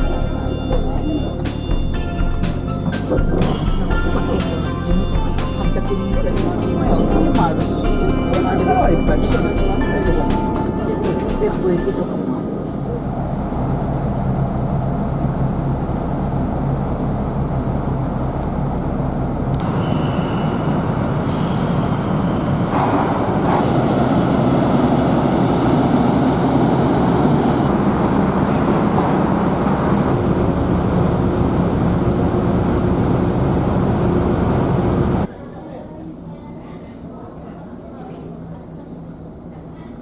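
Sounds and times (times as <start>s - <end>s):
low engine hum: 0.0s - 23.1s, 23.9s - 35.3s
vehicle rumble: 0.0s - 35.3s.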